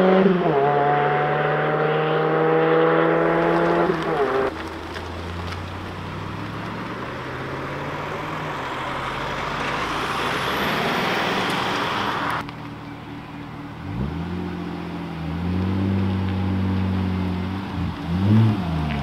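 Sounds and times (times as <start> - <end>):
van passing by: 2.2 - 19.0
car engine idling: 3.2 - 19.0.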